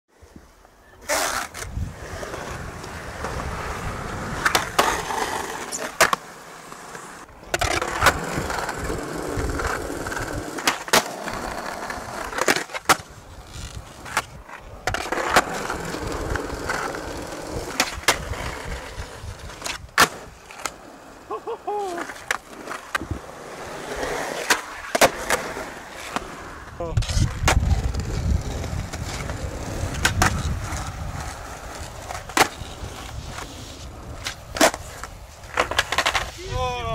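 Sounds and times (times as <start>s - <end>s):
skateboard wheels rolling on concrete: 0.1s - 36.9s
skateboard clacks and smacks: 4.2s - 20.8s, 21.8s - 26.3s, 27.0s - 36.4s.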